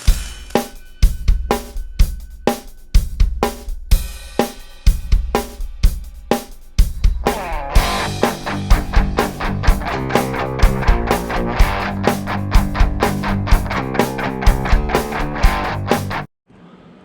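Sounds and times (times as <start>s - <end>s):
rock music drum beat: 0.0s - 16.3s.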